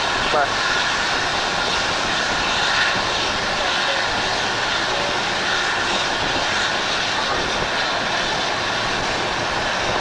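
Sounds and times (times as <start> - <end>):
wind rushing past train: 0.0 - 10.0.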